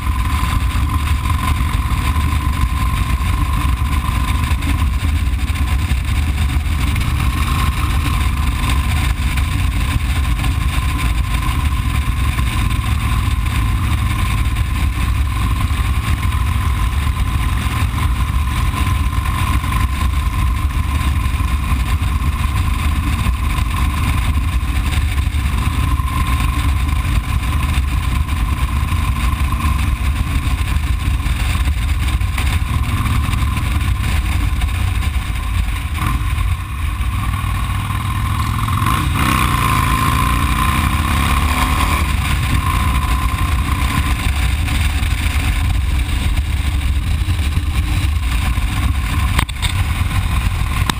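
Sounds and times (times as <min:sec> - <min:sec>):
motorcycle engine drone: 0:00.0 - 0:50.9.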